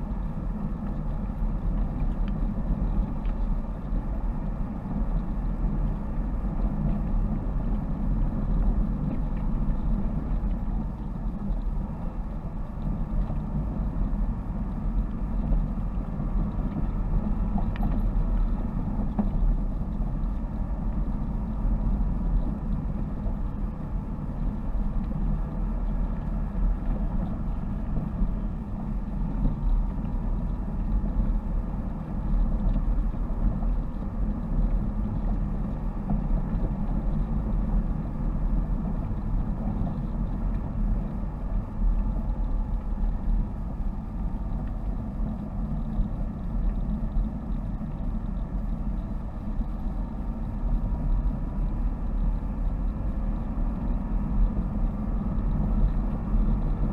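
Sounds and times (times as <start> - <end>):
car engine and tyres on gravel: 0.0 - 56.9.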